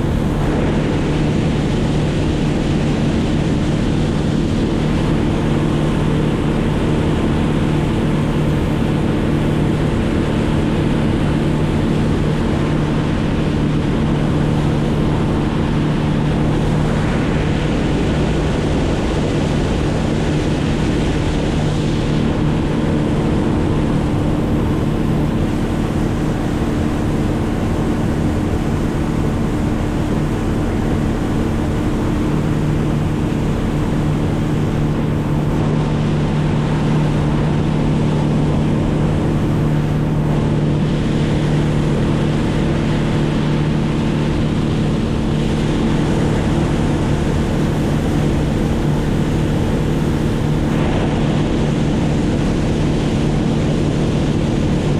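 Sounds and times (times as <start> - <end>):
engine droning: 0.0 - 54.9
rush of wind or water: 0.0 - 54.9.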